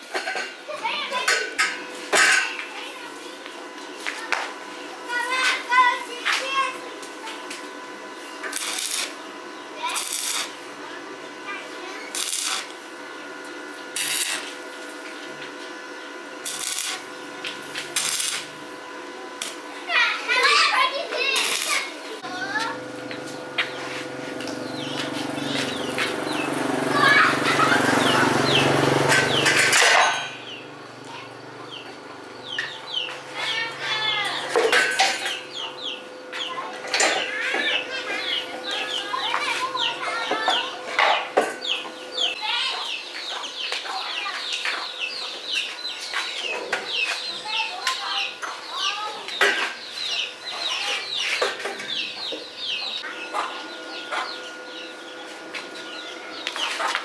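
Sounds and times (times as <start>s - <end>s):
chickens clucking: 0.1s - 57.0s.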